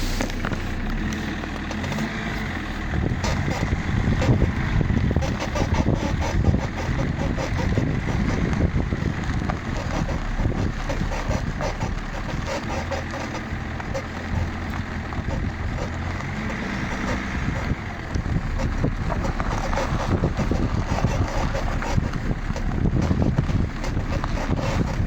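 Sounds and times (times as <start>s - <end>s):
car rolling rumble: 0.0s - 25.0s
suspension squeaking: 0.0s - 25.0s.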